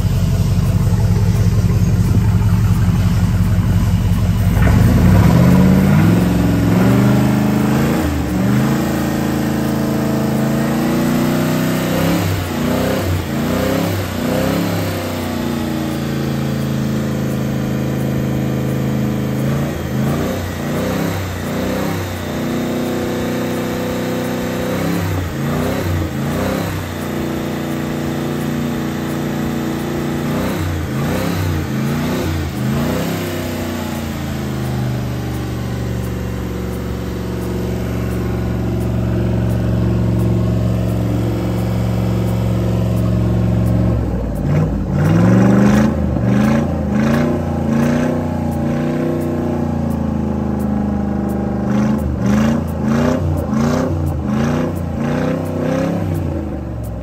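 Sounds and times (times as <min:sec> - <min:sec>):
boat engine revving and idling: 0:00.0 - 0:57.0.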